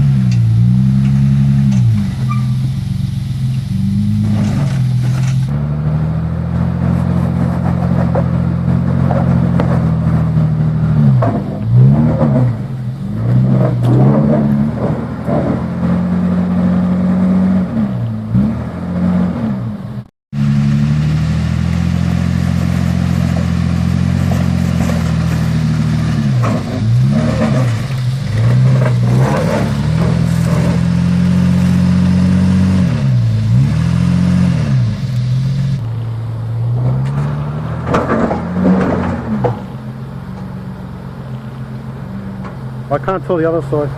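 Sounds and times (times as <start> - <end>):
engine revving under load: 0.0 - 43.9.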